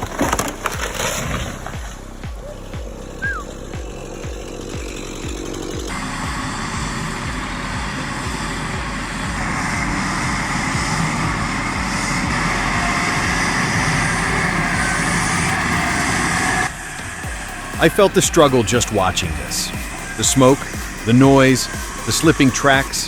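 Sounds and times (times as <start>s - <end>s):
engine running hard: 0.0s - 23.0s.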